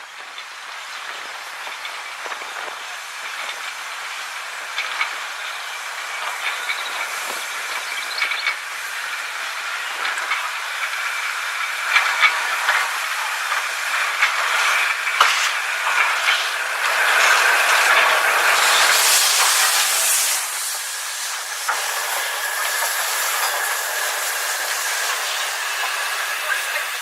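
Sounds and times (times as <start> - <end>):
hiss: 0.0 - 27.0
train running on track: 0.0 - 27.0.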